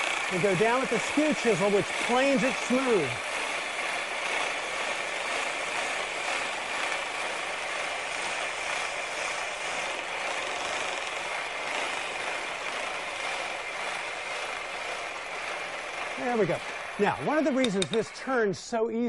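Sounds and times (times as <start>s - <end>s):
chisel cutting hiss on wood: 0.0s - 18.9s
treadle lathe running: 0.0s - 19.0s.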